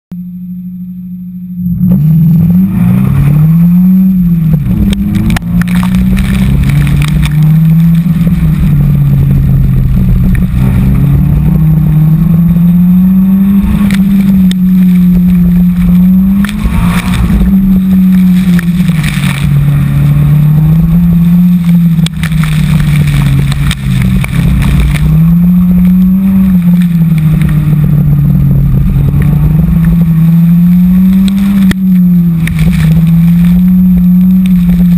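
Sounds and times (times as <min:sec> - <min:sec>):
car engine revving: 0:00.1 - 0:34.9
wind and road noise: 0:01.5 - 0:34.9.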